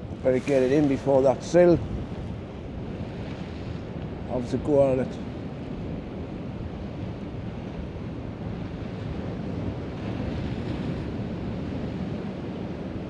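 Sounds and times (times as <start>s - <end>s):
sea waves on rocky shore: 0.0s - 13.0s
wind buffeting microphone: 0.0s - 13.0s.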